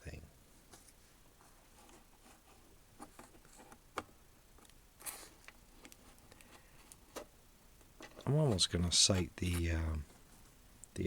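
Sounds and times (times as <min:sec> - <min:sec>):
faint clicks and handling noises: 0:00.7 - 0:11.0.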